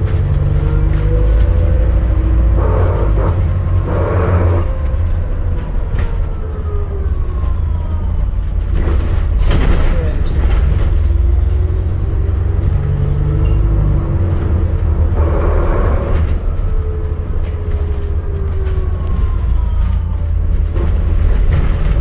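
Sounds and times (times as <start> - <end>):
bus ride rumble: 0.0 - 22.0.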